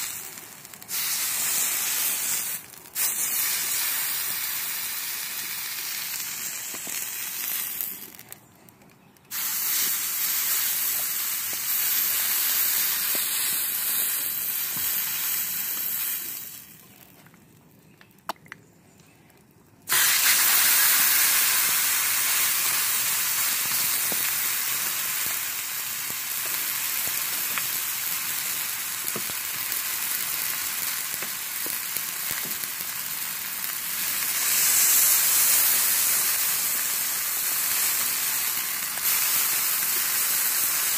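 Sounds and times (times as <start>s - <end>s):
steaks sizzling on griddle: 0.0s - 8.2s, 9.3s - 16.7s, 19.9s - 40.9s.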